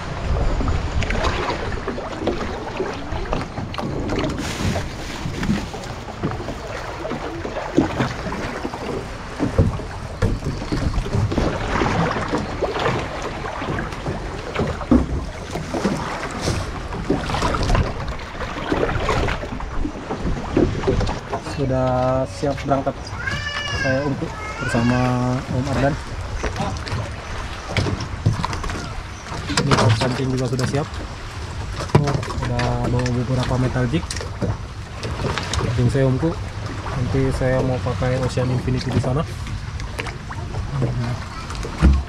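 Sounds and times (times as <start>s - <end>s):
knocks and splashes: 0.0s - 42.0s
water sloshing around boat: 0.0s - 42.0s
wind buffeting microphone: 0.0s - 42.0s.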